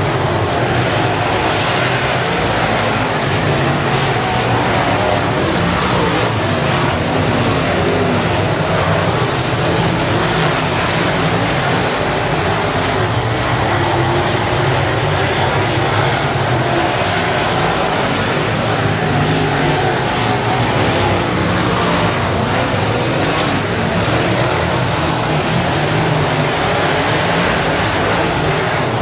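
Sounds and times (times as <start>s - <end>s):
race car engines roaring: 0.0s - 29.0s.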